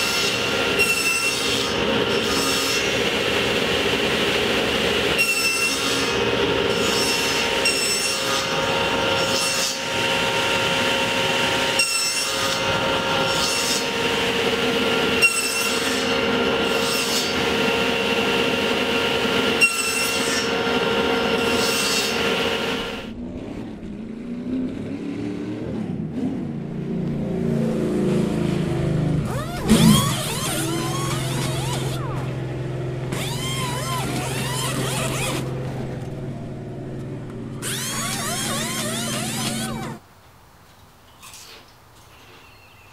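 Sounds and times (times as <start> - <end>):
table saw cutting plywood: 0.0 - 23.1, 28.3 - 40.0.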